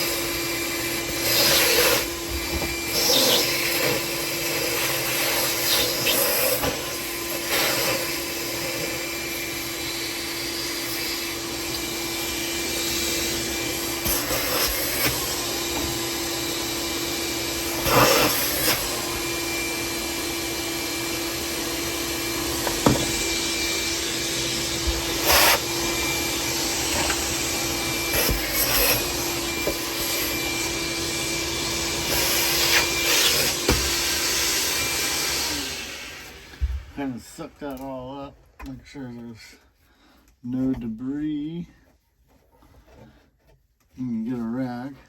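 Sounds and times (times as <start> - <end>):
vacuum cleaner humming: 0.0 - 38.0.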